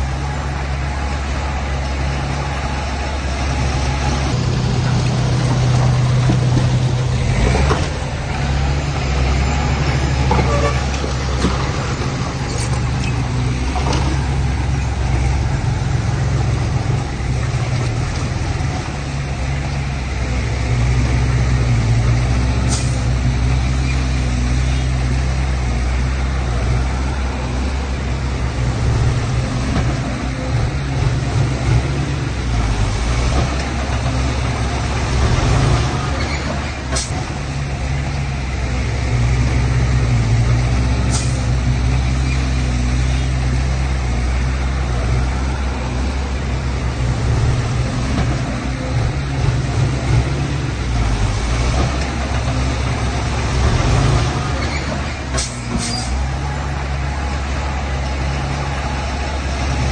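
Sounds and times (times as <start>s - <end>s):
heavy diesel machinery droning: 0.0s - 59.9s.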